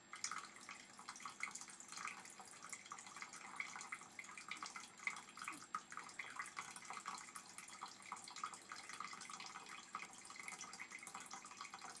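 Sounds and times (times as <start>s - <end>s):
fountain trickling and dripping: 0.0s - 12.0s.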